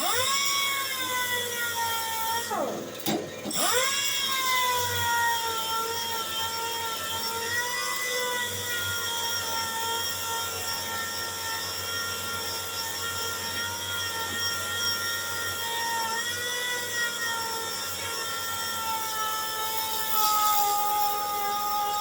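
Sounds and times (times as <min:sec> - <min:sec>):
power sander whining on metal: 0:00.0 - 0:22.0.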